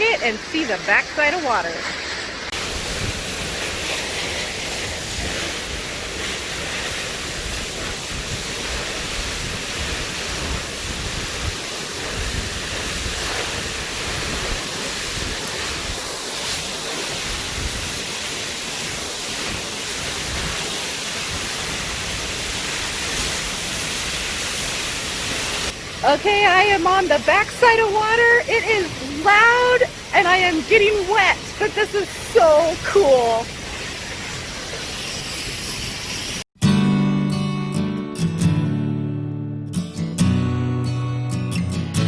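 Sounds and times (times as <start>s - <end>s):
waterfall rushing: 0.0s - 36.4s.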